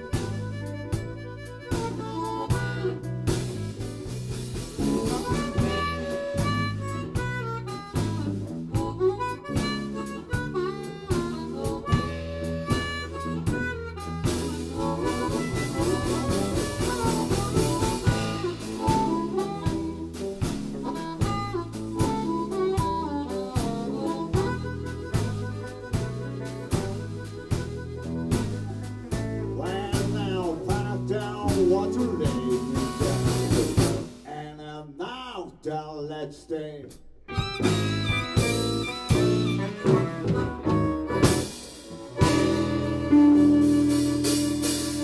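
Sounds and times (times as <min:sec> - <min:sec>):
electric guitar: 0:00.0 - 0:34.2, 0:37.3 - 0:45.0
electric bass: 0:00.0 - 0:34.3, 0:37.2 - 0:45.0
amplified harmonica: 0:00.0 - 0:34.4, 0:37.2 - 0:45.0
drum kit beat: 0:00.0 - 0:34.6, 0:36.8 - 0:45.0.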